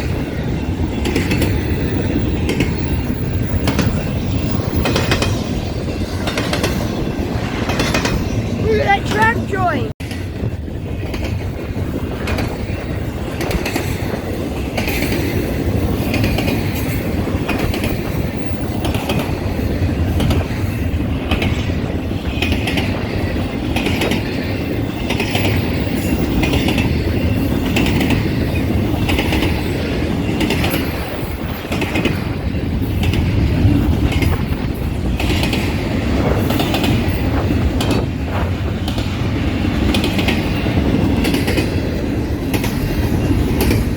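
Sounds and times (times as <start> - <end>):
train wheels clicking on track: 0.0 - 6.9, 10.8 - 43.9
freight train cars rumbling: 0.0 - 43.9.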